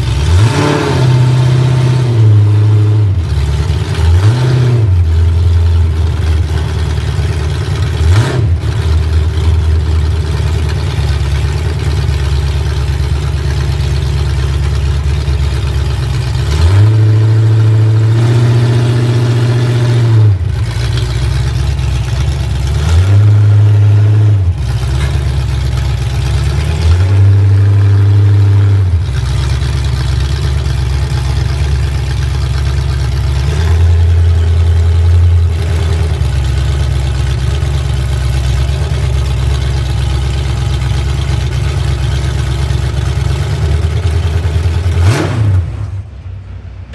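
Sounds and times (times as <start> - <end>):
vehicle engine revving: 0.0 - 46.9.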